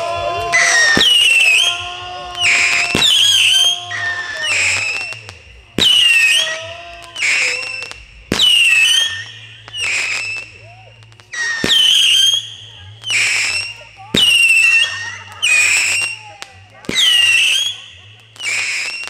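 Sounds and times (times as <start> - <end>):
firework crackle: 0.0 - 19.0
firework launch cracks: 0.0 - 19.0
shrill firework whistle: 0.0 - 19.0.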